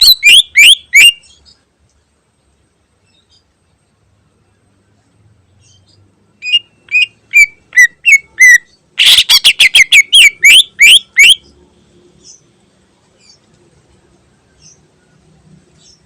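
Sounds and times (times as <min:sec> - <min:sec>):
bird singing: 0:00.0 - 0:01.7, 0:02.4 - 0:13.5, 0:14.3 - 0:16.0.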